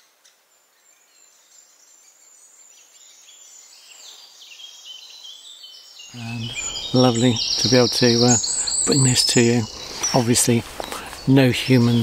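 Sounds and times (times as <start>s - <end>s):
small birds chirping: 0.0s - 12.0s
steady high hiss: 0.0s - 12.0s.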